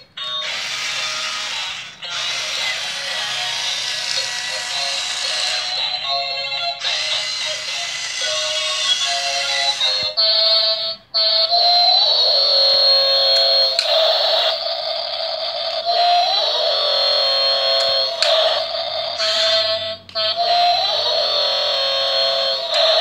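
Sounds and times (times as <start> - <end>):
tinny electronic toy melody: 0.0 - 23.0.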